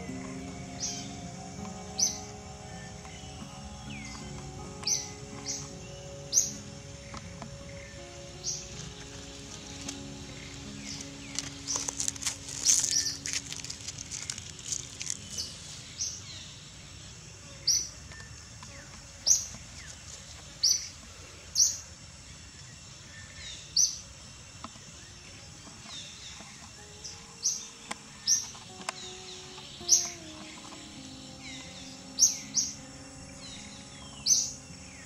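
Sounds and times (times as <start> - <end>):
bird chirping: 0.0 - 20.0, 22.6 - 35.0
low steady background noise: 0.0 - 35.0.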